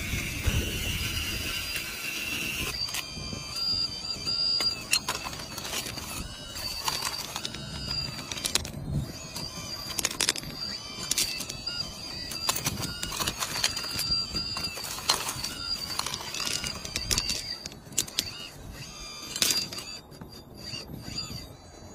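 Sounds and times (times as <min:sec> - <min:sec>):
high hydraulic pump whine: 0:00.0 - 0:21.9
pebbles clattering and scraping: 0:01.7 - 0:20.3.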